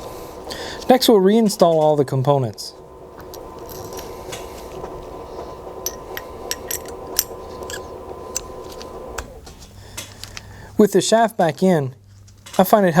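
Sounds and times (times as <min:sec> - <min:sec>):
steady tonal hum: 0:00.0 - 0:13.0.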